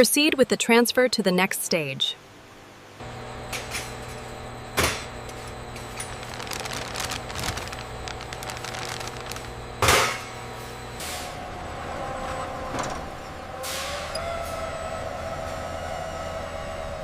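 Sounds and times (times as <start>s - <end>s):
factory machinery humming: 3.0s - 17.0s.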